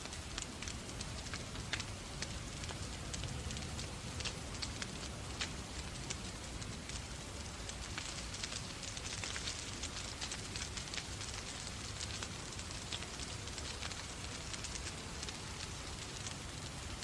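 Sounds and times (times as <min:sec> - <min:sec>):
rain falling: 0:00.0 - 0:17.0
wood fire crackling and popping: 0:00.0 - 0:17.0.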